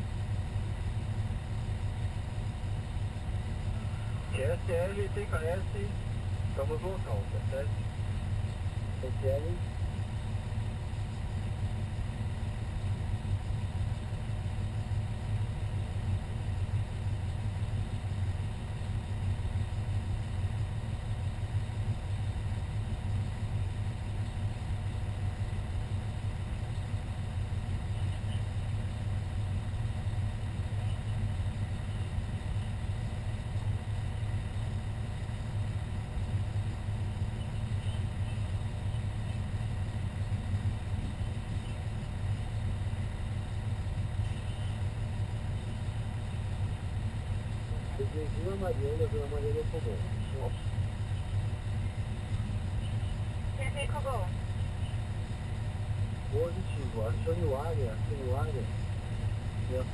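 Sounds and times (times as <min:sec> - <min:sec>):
fire engine idling: 0:00.0 - 0:59.9.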